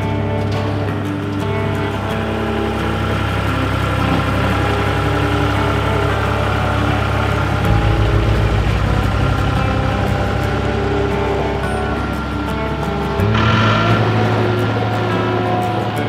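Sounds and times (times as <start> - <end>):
deep pulsing throb: 0.0 - 16.0
diesel engine running: 0.0 - 16.0.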